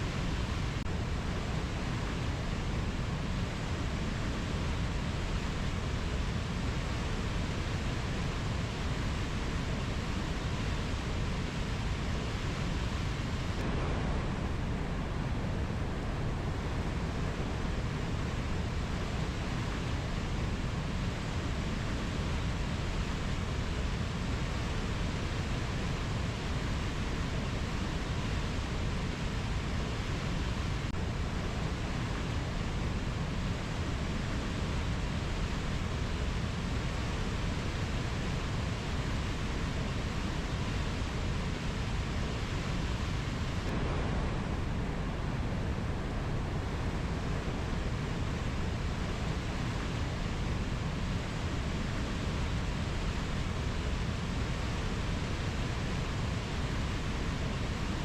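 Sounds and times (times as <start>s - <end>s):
steady rainforest rushing noise: 0.0s - 58.0s.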